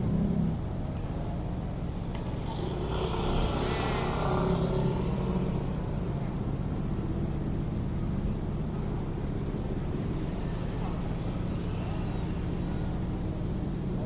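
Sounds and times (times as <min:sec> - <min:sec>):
traffic rumble: 0:00.0 - 0:14.0
distant voices: 0:00.7 - 0:14.0.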